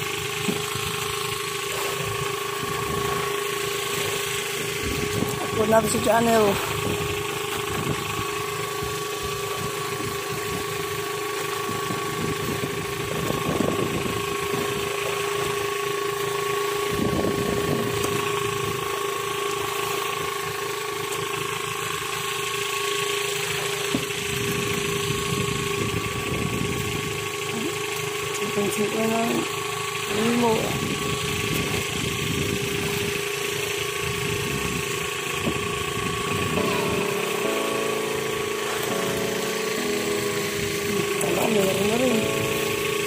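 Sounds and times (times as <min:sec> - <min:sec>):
boat engine humming: 0:00.0 - 0:43.0.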